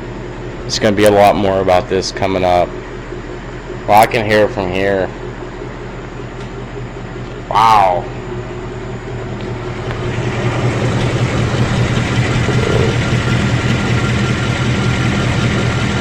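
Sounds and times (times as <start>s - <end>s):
car engine idling: 0.0s - 16.0s
engine ticking: 0.0s - 16.0s.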